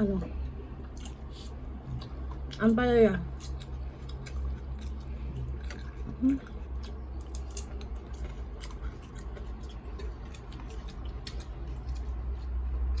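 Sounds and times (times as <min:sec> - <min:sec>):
chewing crunchy food: 0:00.0 - 0:13.0
steady low hum: 0:00.0 - 0:13.0.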